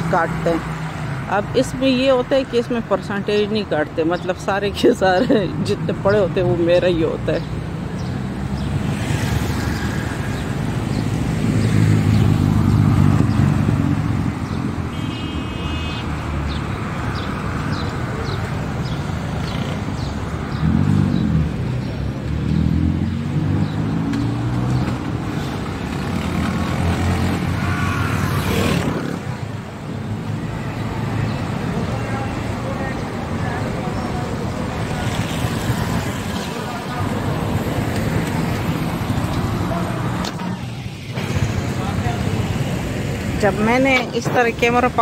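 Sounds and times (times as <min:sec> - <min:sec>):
steady traffic rumble: 0:00.0 - 0:45.0
vehicle engines passing: 0:00.0 - 0:45.0.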